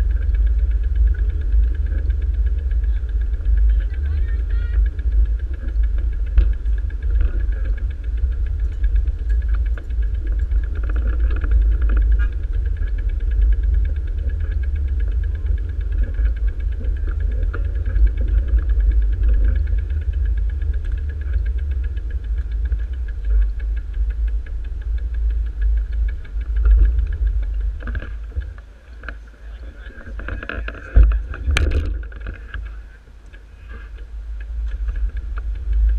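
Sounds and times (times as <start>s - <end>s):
bicycle road noise on asphalt: 0.0s - 35.9s
wind buffeting microphone: 0.0s - 35.9s.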